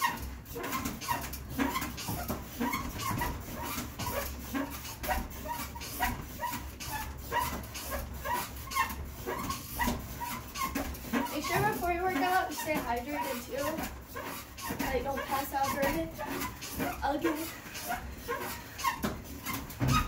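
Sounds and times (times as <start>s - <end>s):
elliptical trainer squeaks and thumps: 0.0s - 20.0s.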